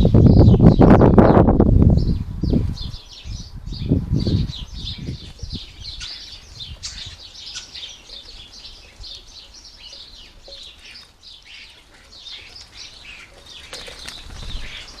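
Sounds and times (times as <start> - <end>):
garden birds chirping and twittering: 0.0 - 15.0.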